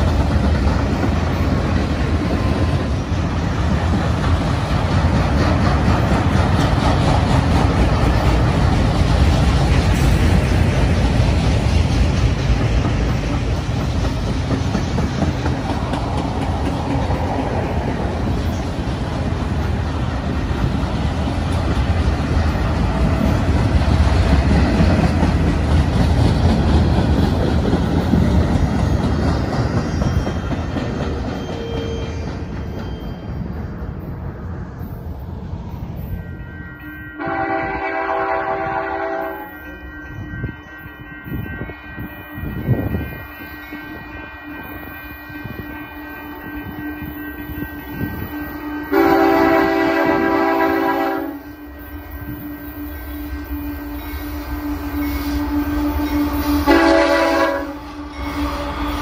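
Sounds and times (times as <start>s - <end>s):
freight train rolling past: 0.0s - 59.0s
steel wheels rumbling on rails: 0.0s - 59.0s.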